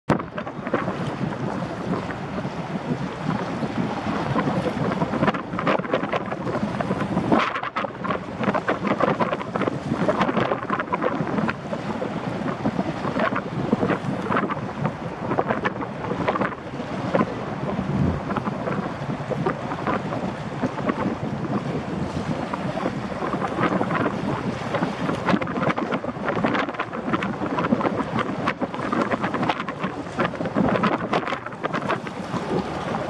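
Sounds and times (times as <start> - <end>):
hydrofoil ferry rushing at speed: 0.0 - 33.0
wind buffeting microphone: 0.1 - 33.0.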